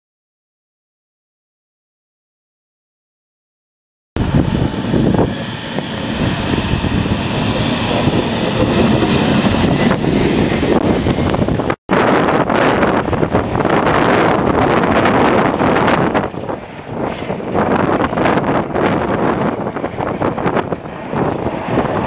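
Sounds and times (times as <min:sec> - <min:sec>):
blizzard wind buffeting microphone: 0:04.2 - 0:22.0.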